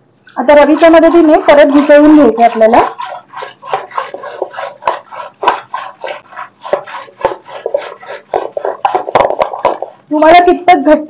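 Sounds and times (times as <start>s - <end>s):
churning stick swishing in pot: 0.6s - 10.1s.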